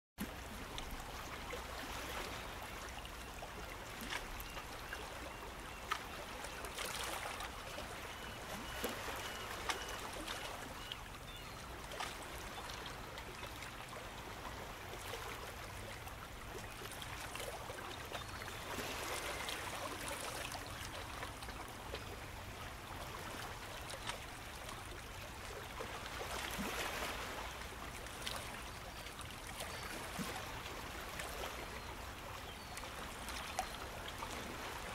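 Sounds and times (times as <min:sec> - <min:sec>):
running water with small splashes: 0:00.2 - 0:34.9.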